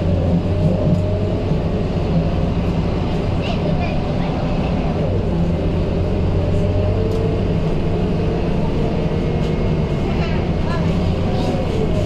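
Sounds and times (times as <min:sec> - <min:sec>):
bus diesel engine drone: 0:00.0 - 0:12.0
road noise: 0:00.0 - 0:12.0.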